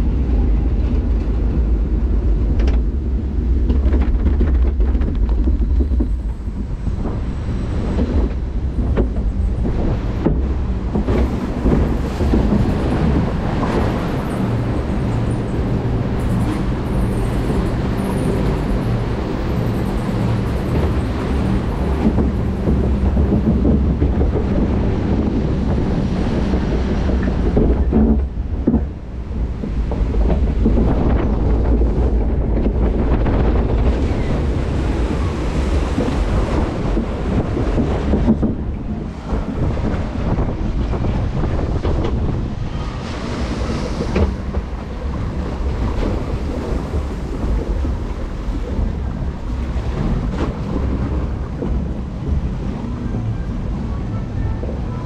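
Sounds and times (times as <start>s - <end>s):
ride machinery rumbling: 0.0s - 55.0s.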